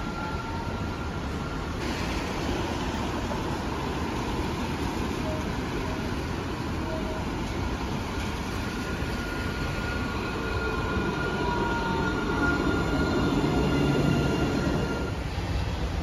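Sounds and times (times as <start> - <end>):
tram rumbling: 0.0 - 16.0.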